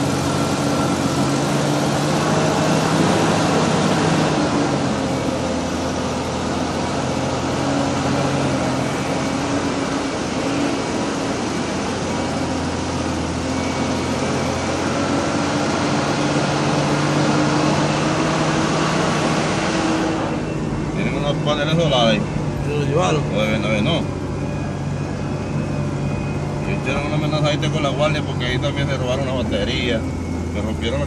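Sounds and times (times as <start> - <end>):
tyre road noise: 0.0 - 31.0
vehicle engine under load: 0.0 - 31.0.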